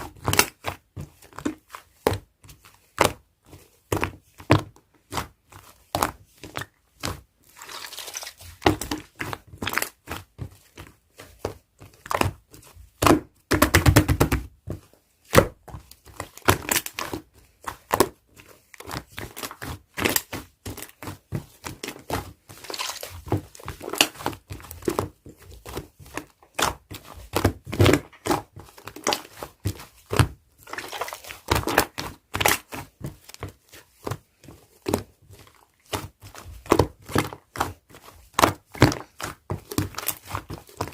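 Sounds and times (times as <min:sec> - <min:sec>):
slime squishing by hand: 0:00.0 - 0:40.9.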